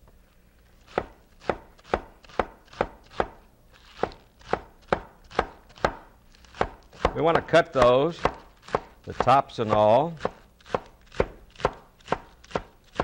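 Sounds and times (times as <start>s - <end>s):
knife chopping on wooden board: 0.9s - 13.0s.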